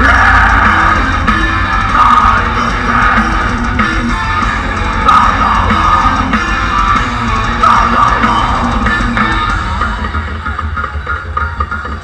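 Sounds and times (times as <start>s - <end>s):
bass guitar: 0.0s - 12.0s
drums: 0.0s - 12.0s
electric guitars: 0.0s - 12.0s.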